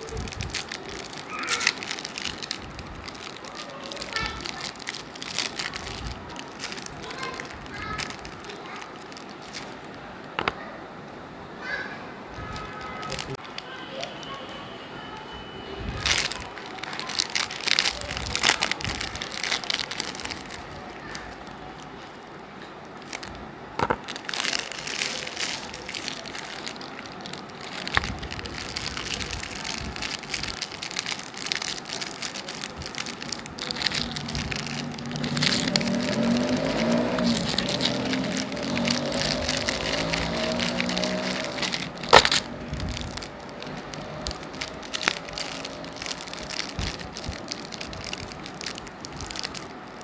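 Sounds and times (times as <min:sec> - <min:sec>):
plastic wrappers crinkling: 0:00.0 - 0:10.6, 0:12.3 - 0:14.1, 0:15.9 - 0:22.2, 0:22.9 - 0:50.0.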